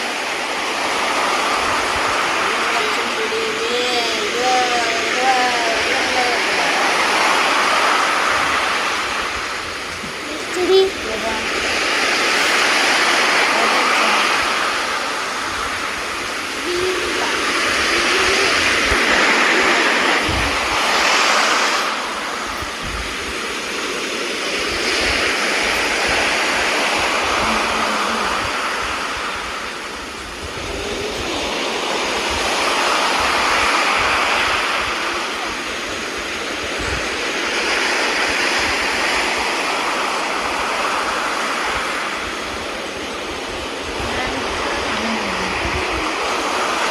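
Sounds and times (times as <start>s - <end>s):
sea waves breaking on shore: 0.0s - 46.9s.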